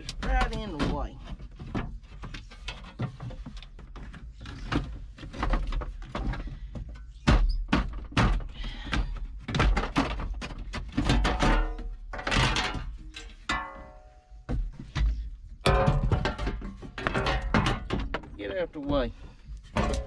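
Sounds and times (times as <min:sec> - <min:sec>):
knocks and clunks of hand tools: 0:00.0 - 0:20.0.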